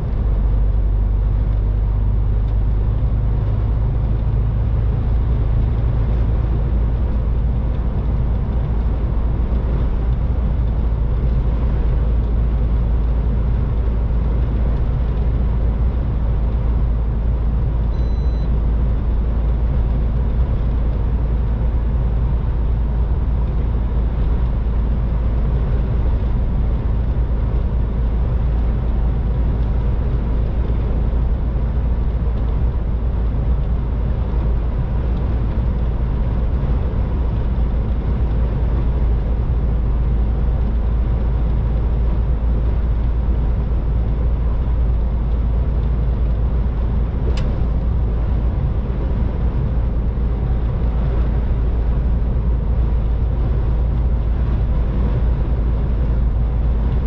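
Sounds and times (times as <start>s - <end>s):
truck engine drone: 0.0s - 57.0s.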